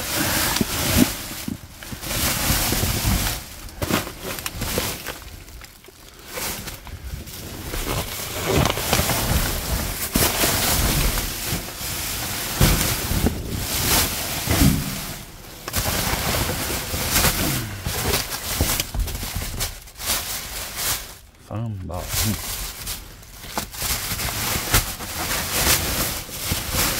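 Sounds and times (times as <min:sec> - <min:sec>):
rustling and scraping of bags: 0:00.0 - 0:26.9.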